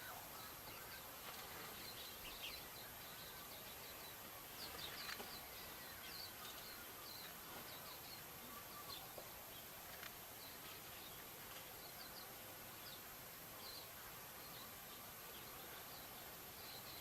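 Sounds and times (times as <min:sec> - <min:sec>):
background hiss: 0:00.0 - 0:17.0
small birds chirping: 0:00.0 - 0:17.0.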